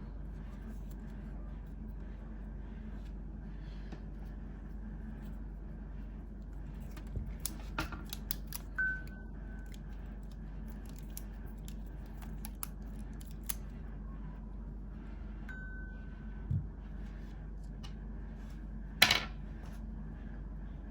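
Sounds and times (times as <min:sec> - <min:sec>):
low electrical hum: 0:00.0 - 0:20.9.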